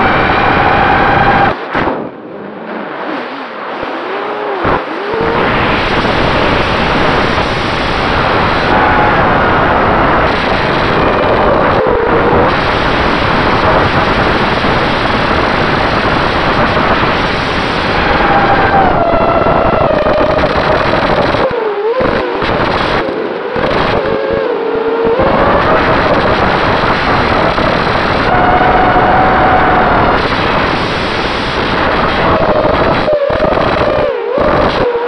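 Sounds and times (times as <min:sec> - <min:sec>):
drone motors whining: 0:00.0 - 0:35.0
wind rush on microphone: 0:00.0 - 0:35.0.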